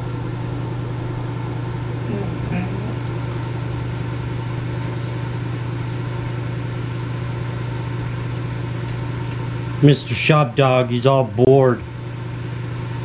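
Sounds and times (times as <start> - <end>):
low mechanical machine hum: 0.0 - 13.0.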